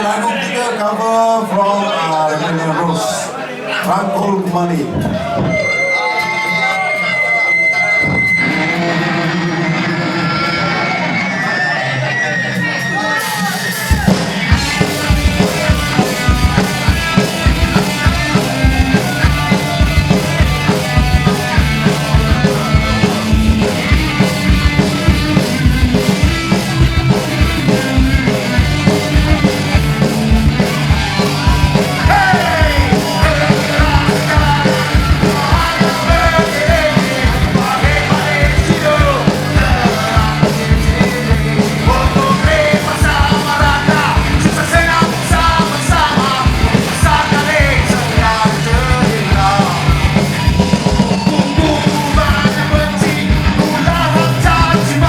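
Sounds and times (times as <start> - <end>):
shouted vocals: 0.0 - 55.0
punk rock band playing live: 4.0 - 55.0.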